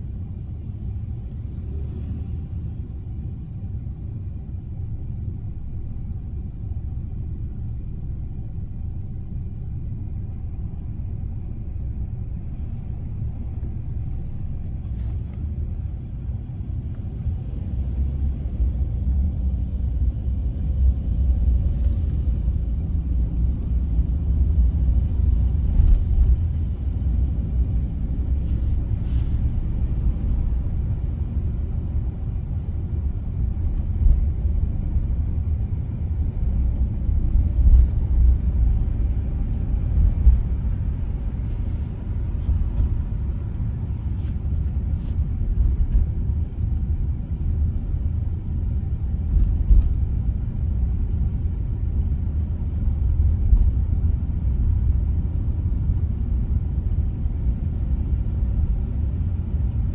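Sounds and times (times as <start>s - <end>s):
car interior low rumble: 0.0s - 59.9s.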